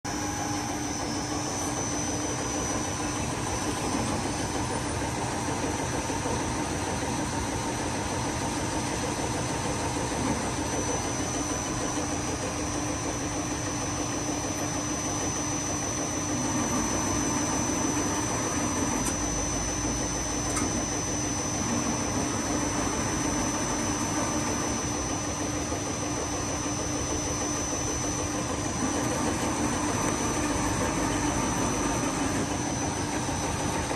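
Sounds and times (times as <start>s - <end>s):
lathe mechanical hum and whine: 0.0s - 33.9s.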